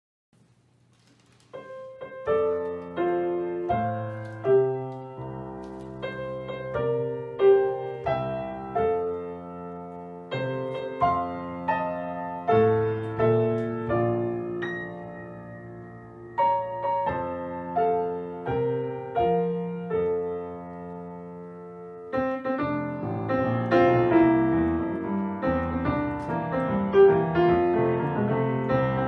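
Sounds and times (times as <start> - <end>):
gentle piano music: 1.5 - 29.0.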